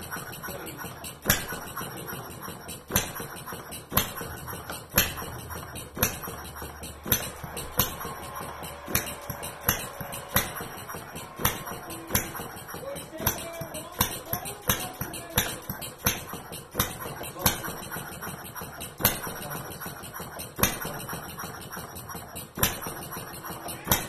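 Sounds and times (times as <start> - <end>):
steady mechanical rattle: 0.0 - 24.0.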